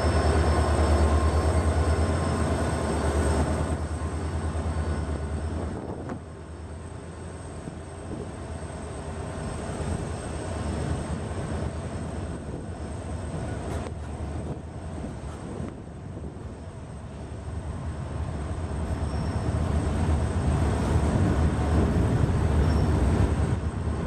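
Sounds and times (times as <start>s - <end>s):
locomotive engine drone: 0.0s - 24.0s
train wheels rumbling on rails: 0.0s - 24.0s.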